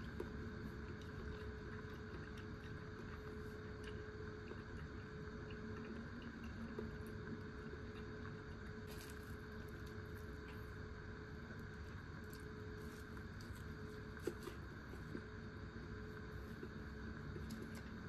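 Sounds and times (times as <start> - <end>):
faint constant tone: 0.0 - 18.0
low background hum: 0.0 - 18.0.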